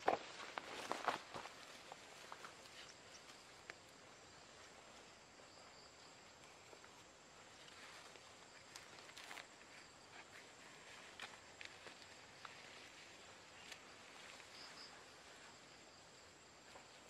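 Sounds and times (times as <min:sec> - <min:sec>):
soft rustles and ticks: 0:00.0 - 0:15.8.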